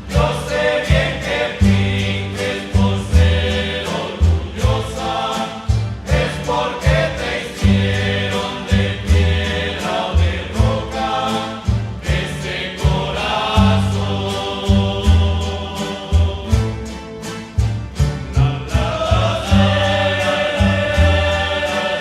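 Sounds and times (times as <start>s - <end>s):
group of voices singing: 0.0s - 22.0s
strummed guitars: 0.0s - 22.0s
walking bass line: 0.0s - 22.0s.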